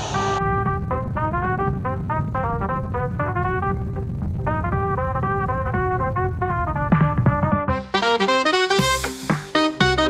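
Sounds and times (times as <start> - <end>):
background music with bass: 0.0 - 10.0.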